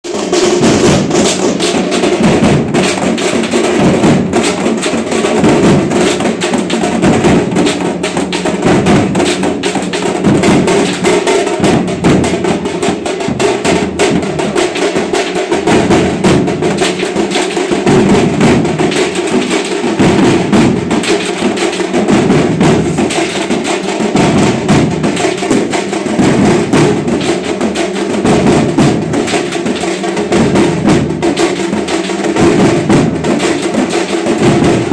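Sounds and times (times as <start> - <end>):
fast drumming: 0.0 - 34.9.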